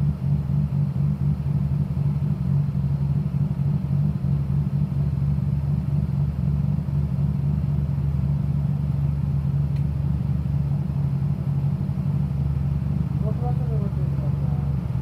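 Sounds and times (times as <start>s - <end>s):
bus engine low rumble: 0.0s - 15.0s.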